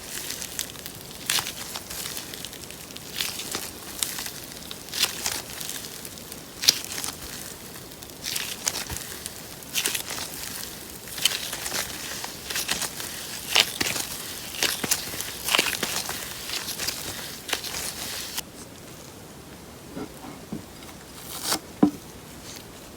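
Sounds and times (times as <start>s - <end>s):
slime squishing and crackling: 0.0s - 18.4s.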